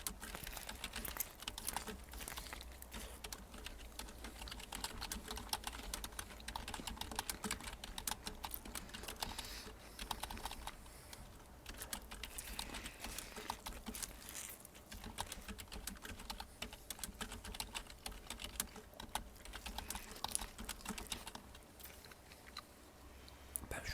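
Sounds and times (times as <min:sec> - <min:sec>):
computer keyboard typing: 0:00.0 - 0:21.7.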